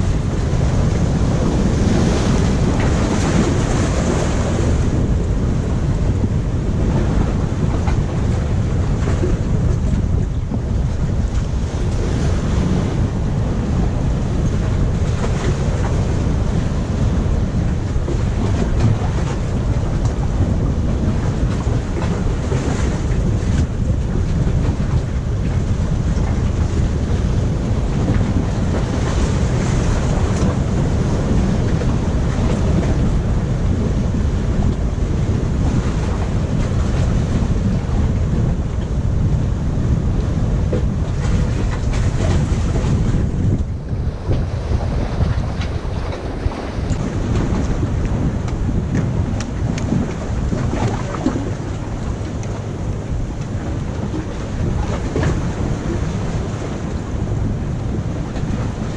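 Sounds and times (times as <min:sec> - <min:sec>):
surf washing against rocks: 0:00.0 - 0:58.9
wind rumbling on microphone: 0:00.0 - 0:58.9.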